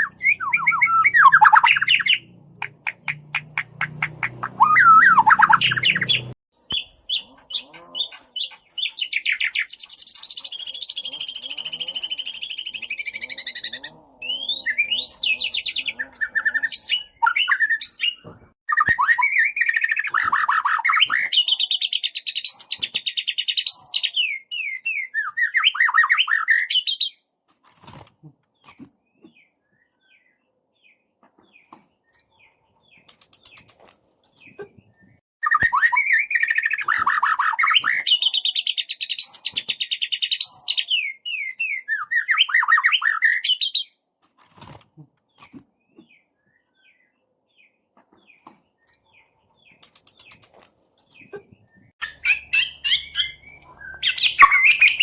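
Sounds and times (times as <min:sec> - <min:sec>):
bird song with trills: 0:00.0 - 0:27.3, 0:28.5 - 0:44.0, 0:45.3 - 0:55.0.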